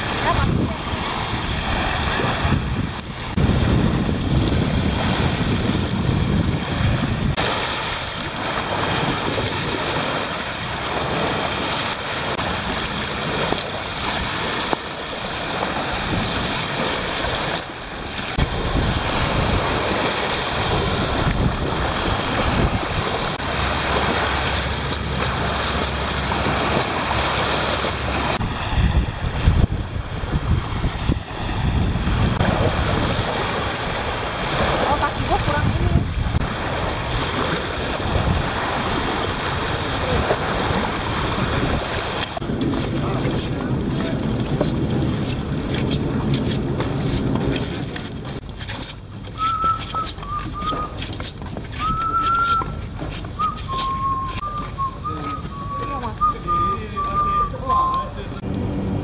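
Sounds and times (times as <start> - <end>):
sea waves washing on beach: 0.0 - 59.0
wind buffeting microphone: 0.0 - 59.0.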